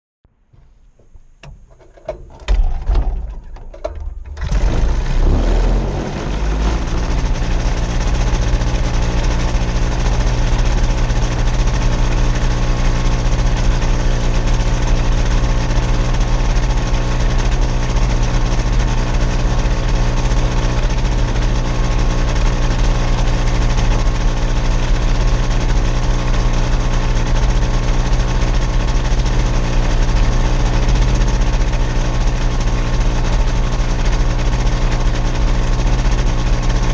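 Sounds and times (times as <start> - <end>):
gyrocopter engine droning: 1.7 - 36.9.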